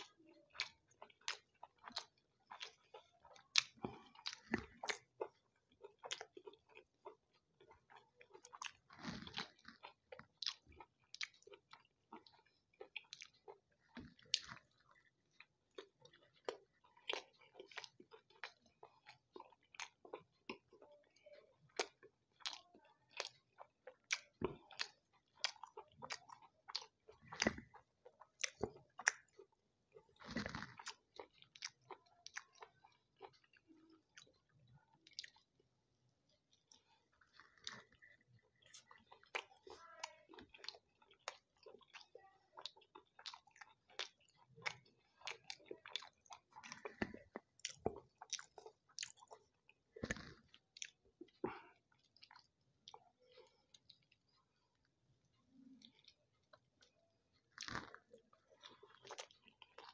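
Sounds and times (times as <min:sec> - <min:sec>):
person chewing with wet clicks: 0:00.0 - 0:59.9.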